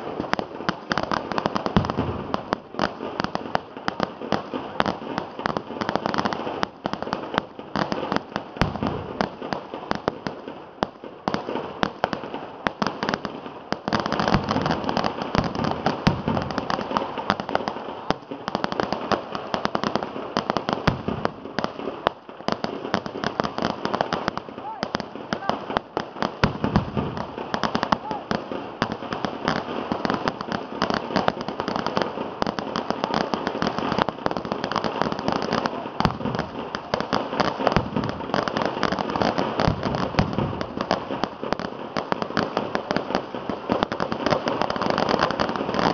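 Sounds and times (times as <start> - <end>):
firecrackers barrage: 0.0 - 45.9.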